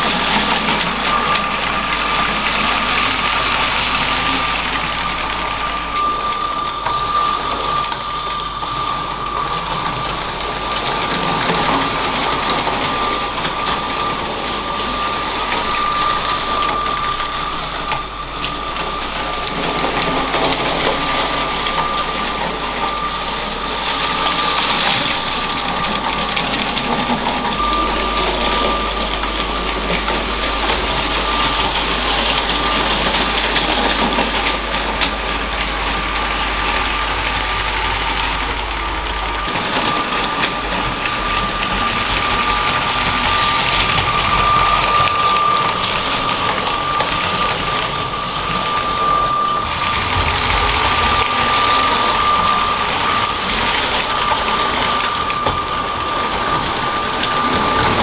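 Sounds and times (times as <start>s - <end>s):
electric motor whine: 0.0s - 58.0s
wheels clicking on rails: 0.0s - 58.0s.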